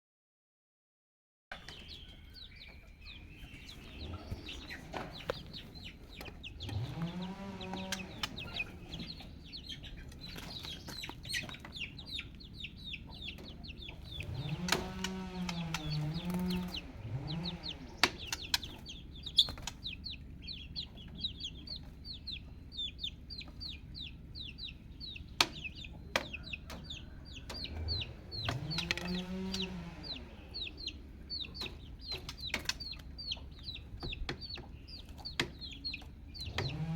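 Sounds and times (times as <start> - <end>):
chicks peeping: 1.5 - 36.9.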